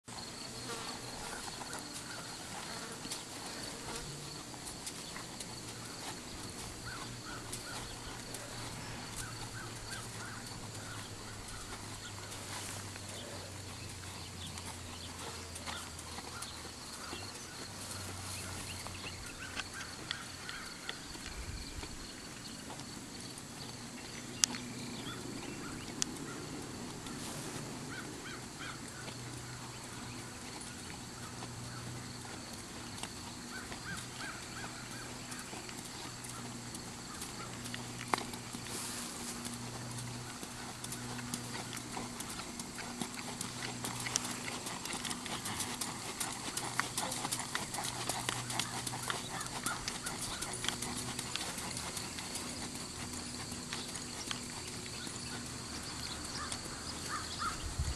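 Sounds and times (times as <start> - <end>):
hooves on dirt: 0.0 - 57.9.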